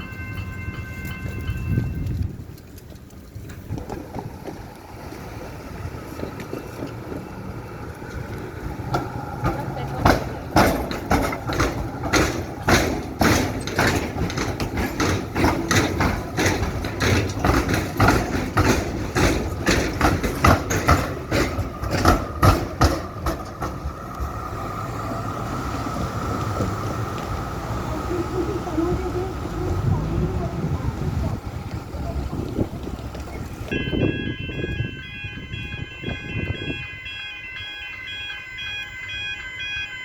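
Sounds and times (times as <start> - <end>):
train wheels clattering: 0.0 - 36.8
steady train hum: 0.0 - 40.0.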